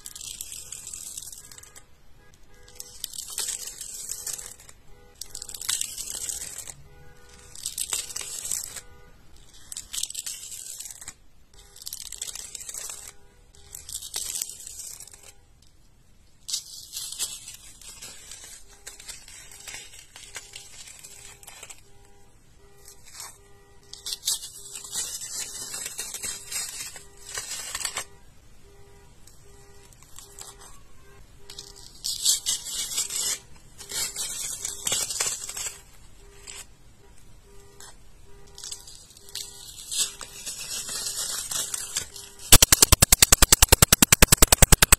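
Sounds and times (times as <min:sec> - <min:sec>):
coating crackling and tearing: 0:00.0 - 0:01.9, 0:02.6 - 0:15.4, 0:16.5 - 0:22.2, 0:22.8 - 0:28.2, 0:29.2 - 0:36.7, 0:37.6 - 0:44.9.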